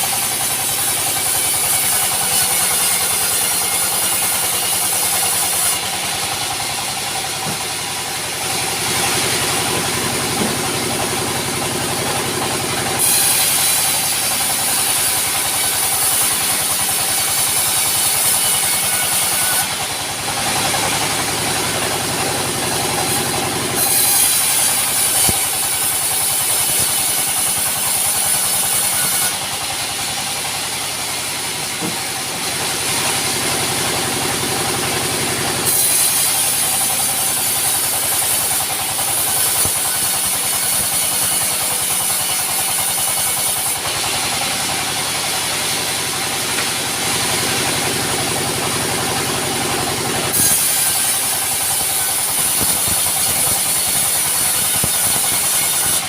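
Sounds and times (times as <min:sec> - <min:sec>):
saw blade hissing through wood: 0:00.0 - 0:21.8, 0:22.7 - 0:49.1, 0:49.8 - 0:56.0.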